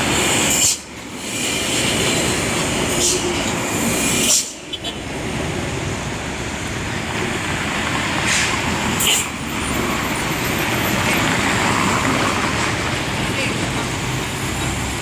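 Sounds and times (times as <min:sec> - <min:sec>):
trucks passing on road: 0:00.0 - 0:15.0.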